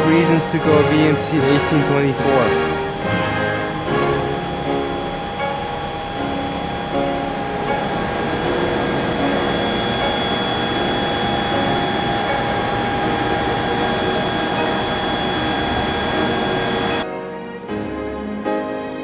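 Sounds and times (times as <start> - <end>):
machining center whining: 0.0 - 17.0.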